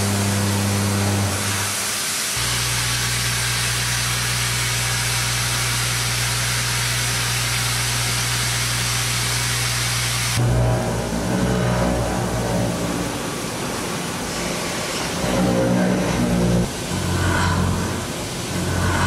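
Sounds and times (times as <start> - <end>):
spindle hum: 0.0 - 1.8, 2.4 - 19.0.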